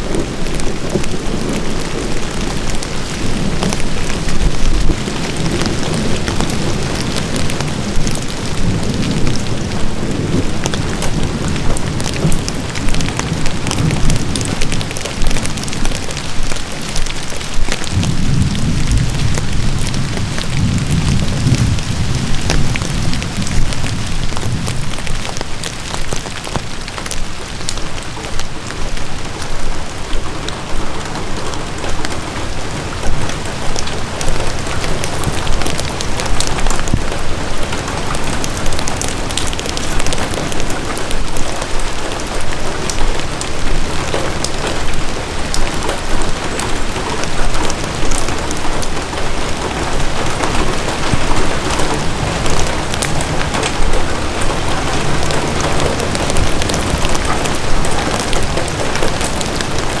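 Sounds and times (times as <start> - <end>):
hiss of rain on forest: 0.0 - 60.0
raindrops ticking on umbrella: 0.0 - 60.0.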